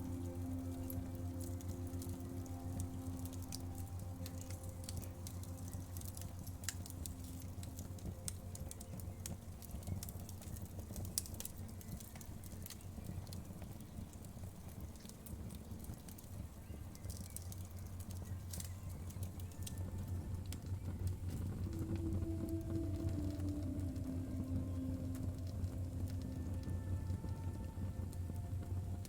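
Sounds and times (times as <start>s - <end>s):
fireplace crackling and popping: 0.0s - 29.0s
low rumble of fire: 0.0s - 29.0s
soft held music tones: 0.0s - 29.0s.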